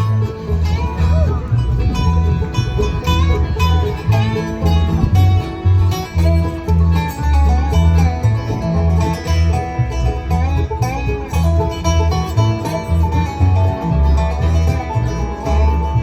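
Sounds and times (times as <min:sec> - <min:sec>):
acoustic guitar: 0:00.0 - 0:16.0
picked banjo: 0:00.0 - 0:16.0
walking bass line: 0:00.0 - 0:16.0.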